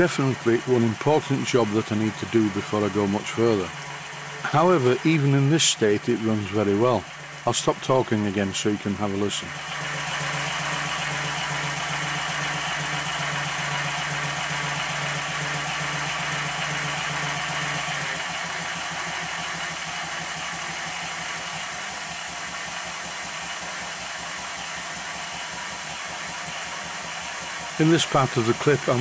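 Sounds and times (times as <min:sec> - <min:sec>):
model engine running: 0:00.0 - 0:29.0.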